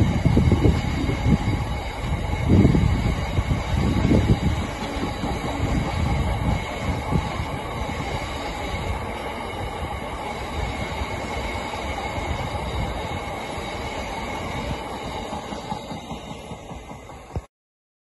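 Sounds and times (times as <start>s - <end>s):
thin steady squeal: 0.0s - 17.4s
train wheels rumbling on rail: 0.0s - 17.5s.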